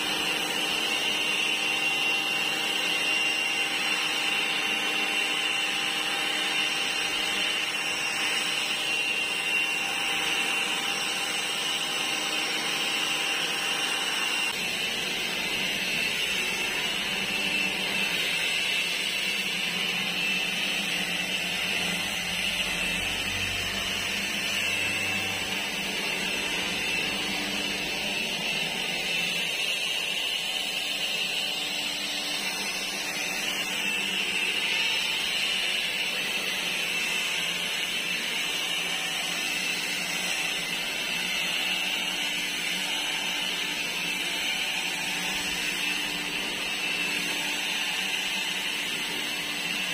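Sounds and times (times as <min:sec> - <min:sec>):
leaf blower running: 0:00.0 - 0:49.9.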